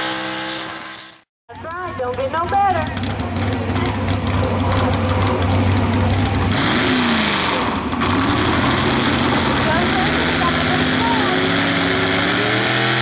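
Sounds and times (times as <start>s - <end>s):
pickup truck engine under load: 1.5s - 13.0s.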